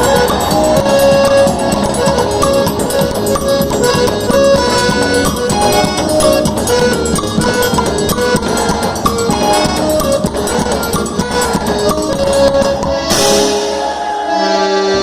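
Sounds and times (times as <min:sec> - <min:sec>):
fast percussion with drum: 0:00.0 - 0:13.9
accordion melody: 0:00.0 - 0:15.0.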